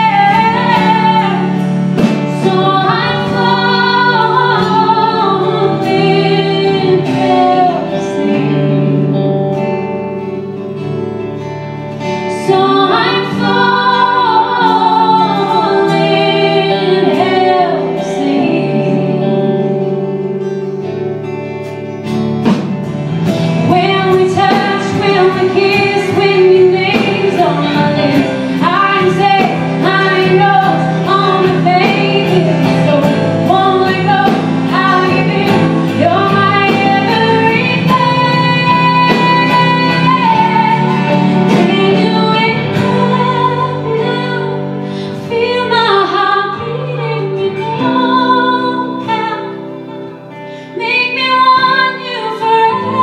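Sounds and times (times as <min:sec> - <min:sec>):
woman singing lead: 0:00.0 - 0:21.5, 0:22.1 - 0:53.0
live country band playing: 0:00.0 - 0:53.0.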